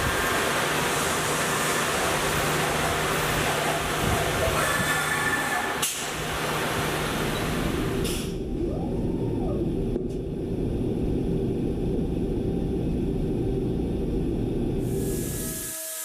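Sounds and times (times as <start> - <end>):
machining centre low rumble: 0.0 - 15.1.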